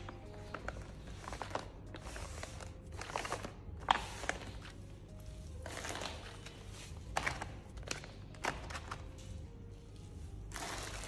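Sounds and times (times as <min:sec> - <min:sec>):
foil pouches crinkling and rustling: 0:00.0 - 0:11.0.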